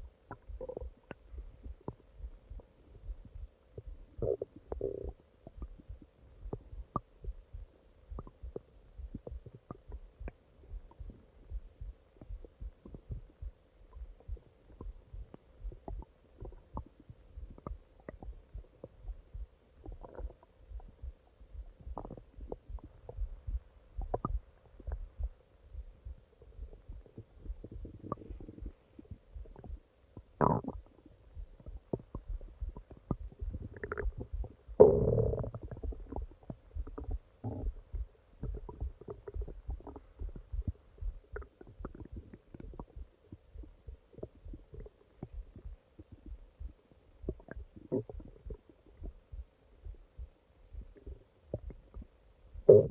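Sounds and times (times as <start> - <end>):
stomach growling: 0.0 - 50.0, 50.8 - 52.9.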